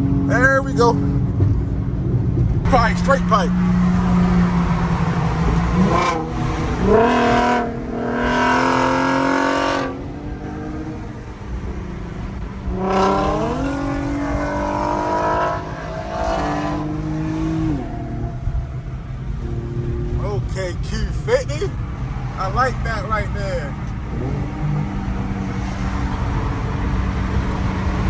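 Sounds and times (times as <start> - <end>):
car exhaust accelerating hard: 0.0 - 28.0.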